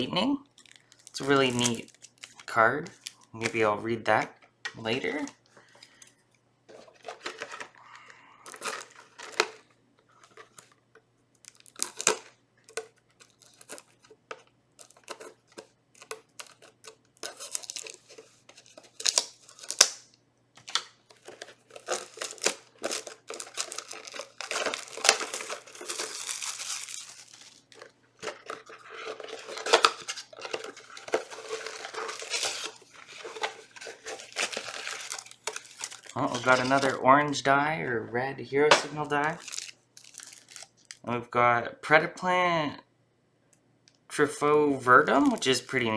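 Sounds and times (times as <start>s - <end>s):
plastic wrapping crinkling and tearing: 0.0s - 3.7s, 4.7s - 6.0s, 6.7s - 10.8s, 11.4s - 37.3s, 38.7s - 41.1s, 44.9s - 45.9s.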